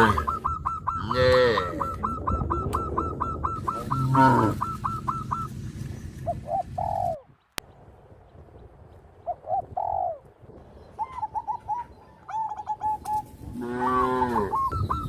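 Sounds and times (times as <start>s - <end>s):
bird cooing: 0.0s - 7.4s, 9.2s - 15.0s
birds chirping: 0.0s - 15.0s.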